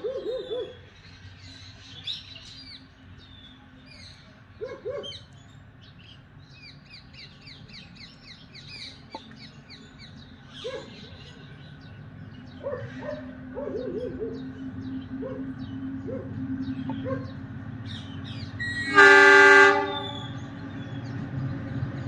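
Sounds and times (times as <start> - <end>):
distant diesel locomotive hum: 0.0 - 22.0.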